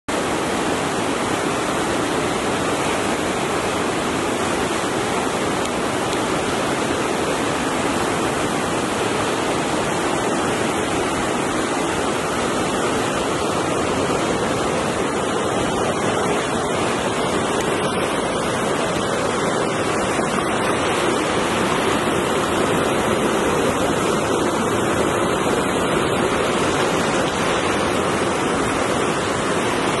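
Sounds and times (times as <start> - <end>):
river rushing over boulders: 0.1 - 30.0.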